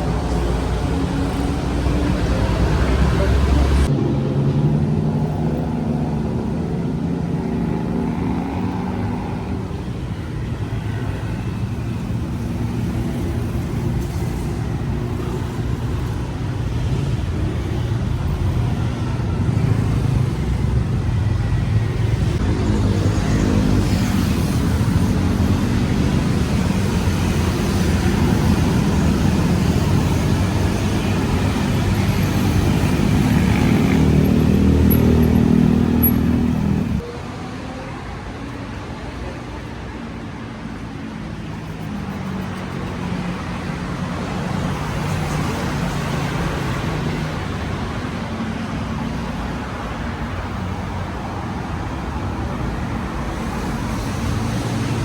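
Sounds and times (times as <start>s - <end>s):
car and motorbike engines rumbling: 0.0s - 55.0s
vehicles passing: 0.0s - 55.0s.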